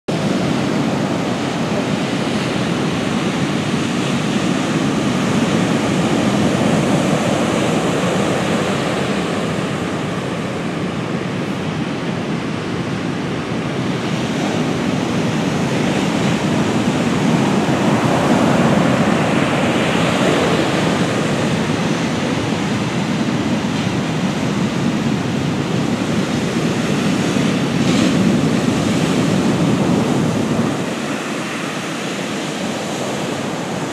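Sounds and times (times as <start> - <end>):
surf breaking on sandy beach: 0.1 - 33.9.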